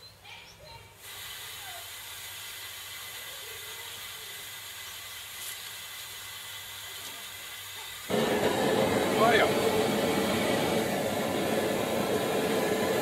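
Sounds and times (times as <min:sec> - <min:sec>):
pressure burner hissing: 0:01.0 - 0:13.0.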